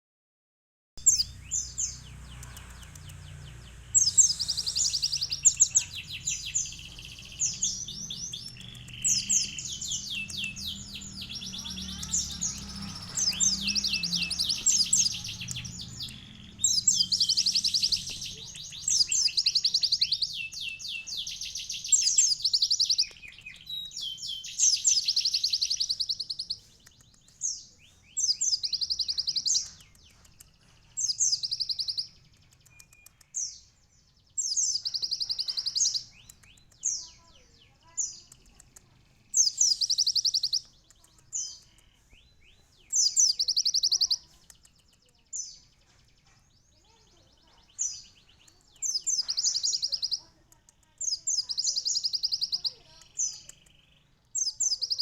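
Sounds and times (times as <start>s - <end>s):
bird singing trilled song: 1.0s - 55.0s.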